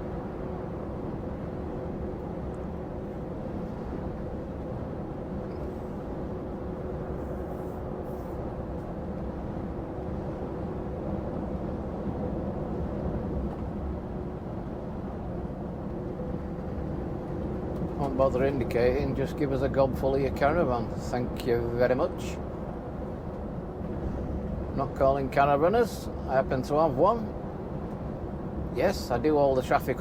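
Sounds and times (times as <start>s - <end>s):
lorry engine and road noise: 0.0s - 30.0s.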